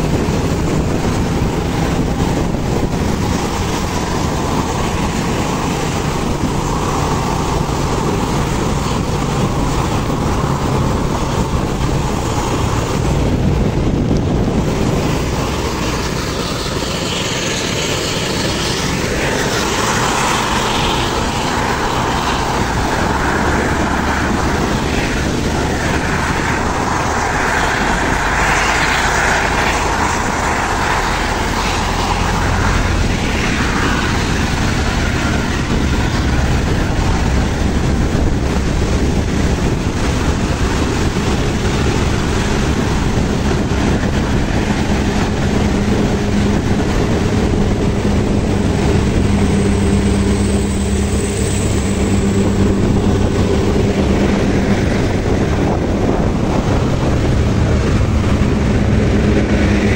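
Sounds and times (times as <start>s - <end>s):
heavy vehicle engines droning: 0.0s - 59.9s
tyre and wind noise: 0.0s - 59.9s.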